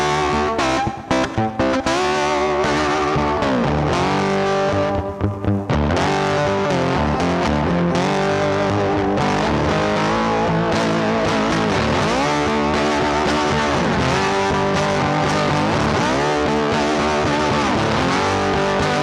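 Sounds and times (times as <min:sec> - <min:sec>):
electric guitar music with bending notes: 0:00.0 - 0:19.0.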